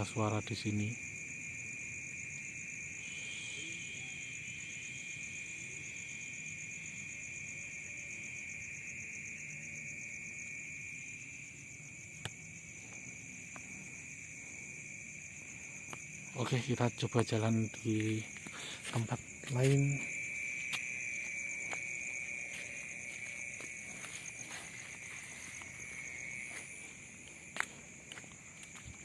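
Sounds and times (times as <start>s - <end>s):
crickets and insects trilling: 0.0s - 29.0s.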